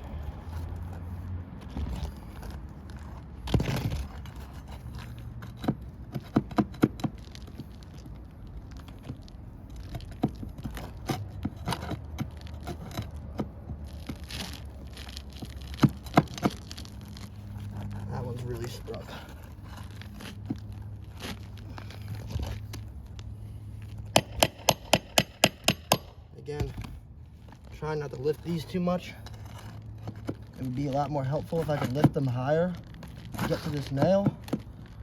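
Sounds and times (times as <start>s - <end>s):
tool scraping under shingles: 0.0s - 35.0s.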